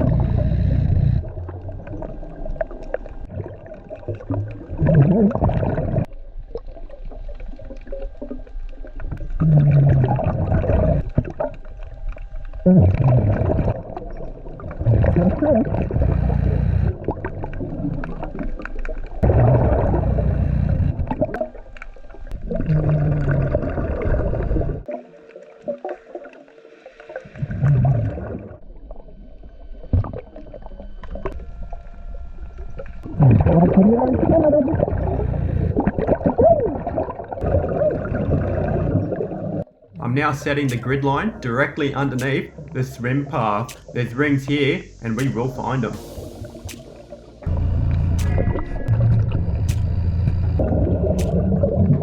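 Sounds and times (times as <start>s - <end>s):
underwater bubbles gurgling: 0.0s - 44.0s, 44.9s - 52.0s.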